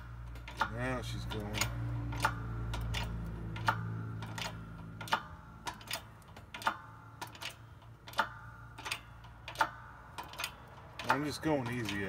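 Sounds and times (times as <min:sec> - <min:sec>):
sharp metallic ticks with ring: 0:00.0 - 0:12.0.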